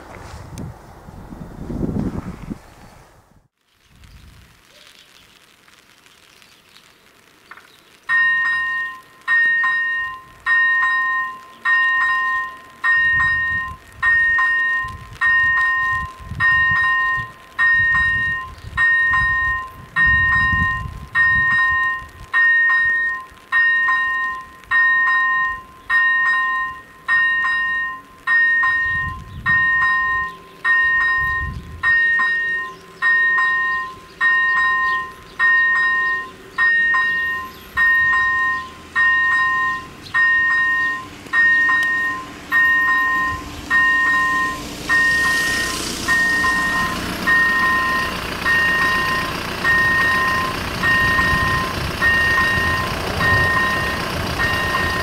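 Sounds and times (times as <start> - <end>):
electronic crossing bell dinging: 8.1 - 55.0.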